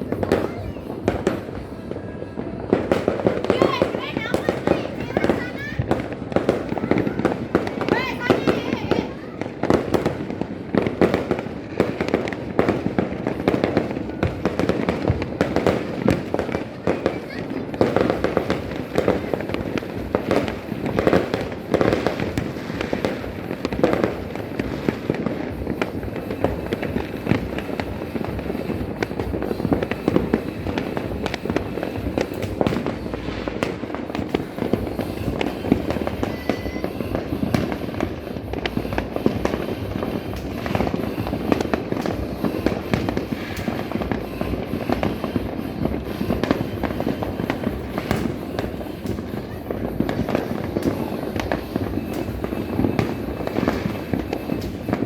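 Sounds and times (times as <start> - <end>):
fireworks and firecrackers popping: 0.0 - 55.0.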